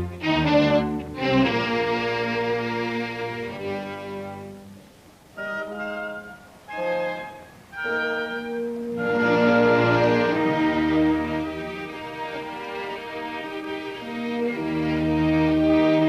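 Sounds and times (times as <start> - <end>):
orchestral string music: 0.0 - 16.0.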